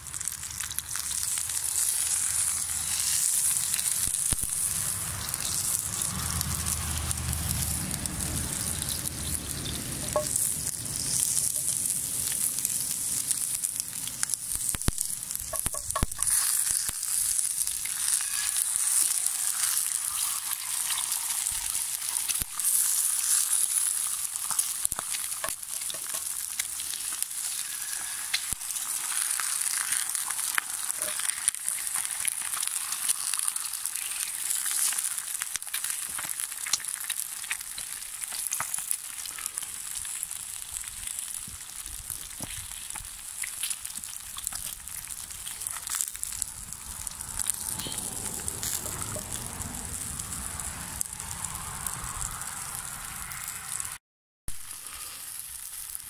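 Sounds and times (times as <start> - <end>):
oil sizzling in a skillet: 0.0 - 56.0.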